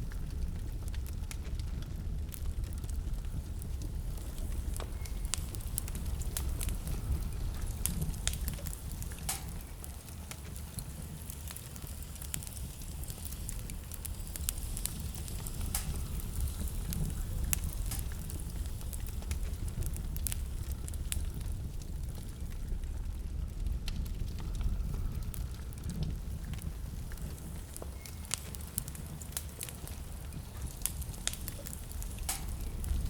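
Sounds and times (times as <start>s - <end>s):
blizzard wind rumbling: 0.0s - 33.0s
fireplace fire crackling: 0.0s - 33.0s.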